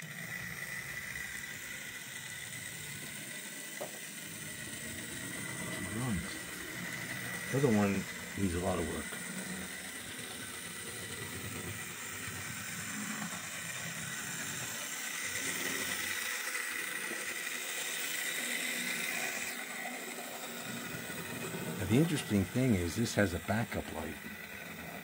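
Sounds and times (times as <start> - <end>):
model train motor whirring: 0.0 - 25.0.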